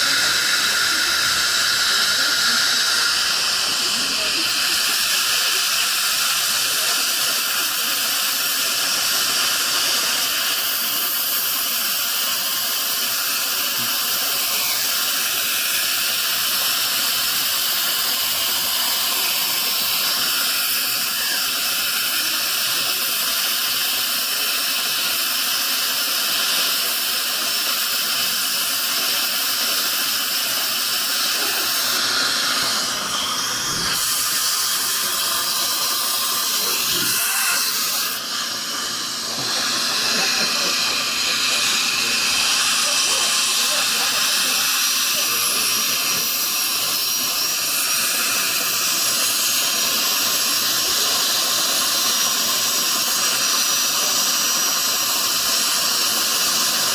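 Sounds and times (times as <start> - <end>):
dental equipment hissing: 0.0 - 56.9.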